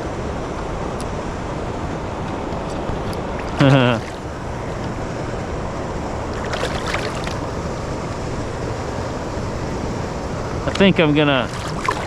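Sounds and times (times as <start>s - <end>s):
fast river current rushing: 0.0s - 12.0s
wind on microphone: 0.0s - 12.0s.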